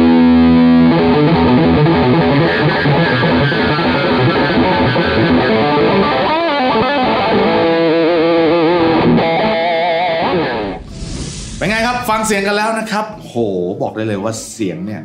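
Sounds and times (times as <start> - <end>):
distorted electric guitar: 0.0 - 12.3.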